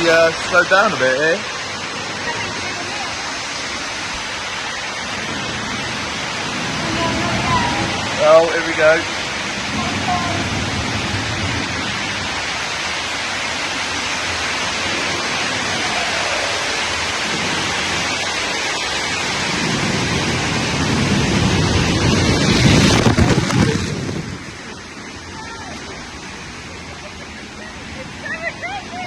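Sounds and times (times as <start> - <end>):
rushing splashing water: 0.0 - 29.0.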